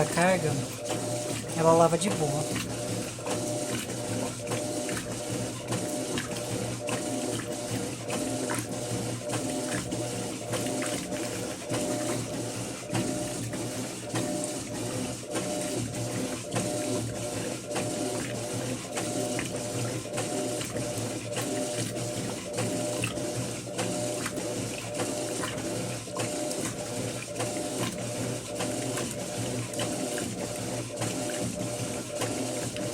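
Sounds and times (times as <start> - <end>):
washing machine agitating: 0.0 - 32.9.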